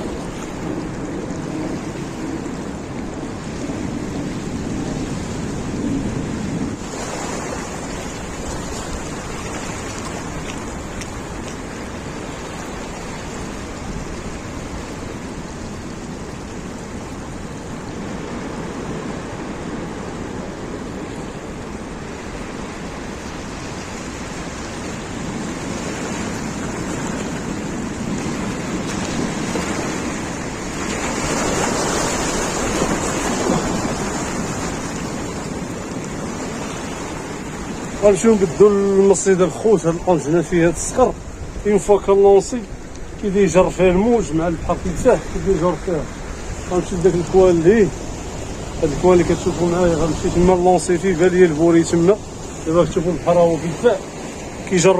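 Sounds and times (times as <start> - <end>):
wind noise on microphone: 0.0 - 51.1
waves washing on rocky shore: 0.0 - 54.9.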